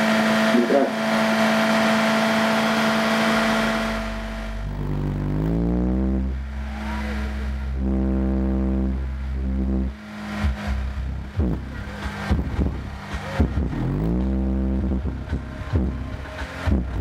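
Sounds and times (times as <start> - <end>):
subwoofer deep bass tones: 0.0 - 17.0.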